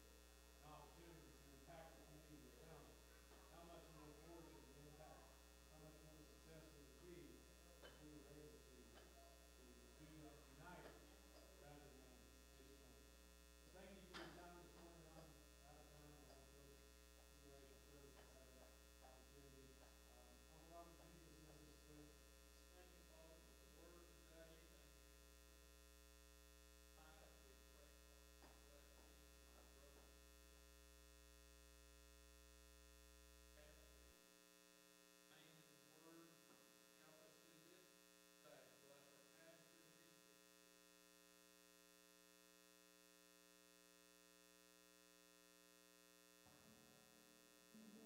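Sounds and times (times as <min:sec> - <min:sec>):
faint mains hum: 0:00.0 - 0:48.0.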